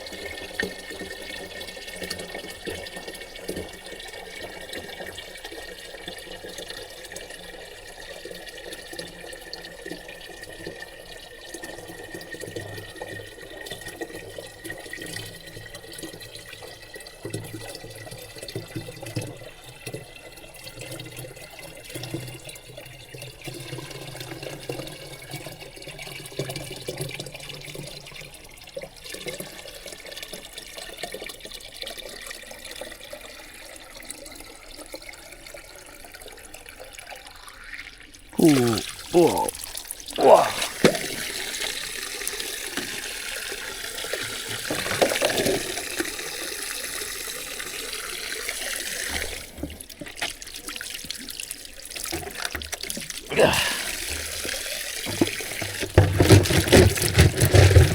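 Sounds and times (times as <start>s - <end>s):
water running into a container: 0.0s - 57.9s.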